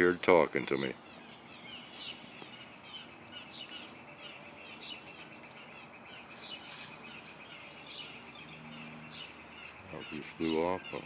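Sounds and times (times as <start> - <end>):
bird chirping: 0.0 - 11.0
distant bird calls: 0.0 - 11.0.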